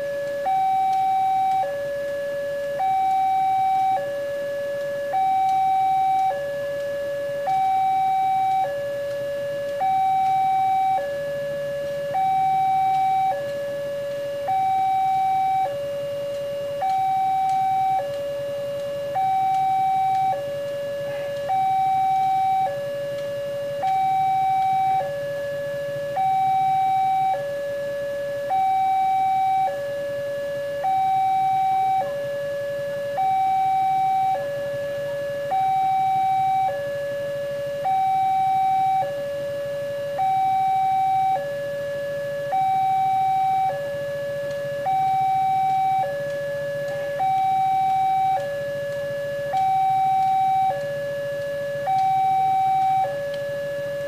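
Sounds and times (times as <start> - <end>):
two-tone level crossing alarm: 0.0 - 54.0.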